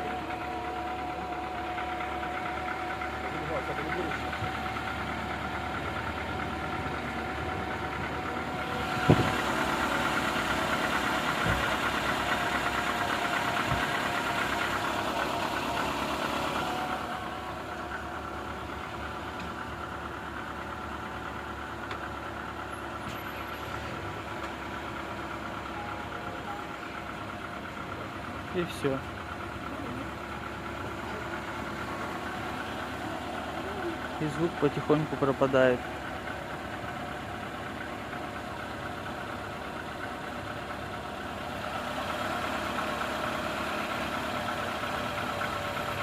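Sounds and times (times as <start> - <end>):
car engine idling with knock: 0.0 - 46.0.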